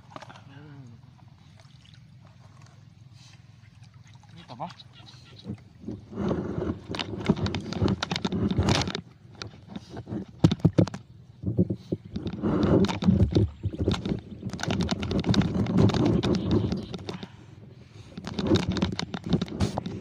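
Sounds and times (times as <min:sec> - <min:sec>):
knocks and clatter in a boat: 0:00.0 - 0:20.0.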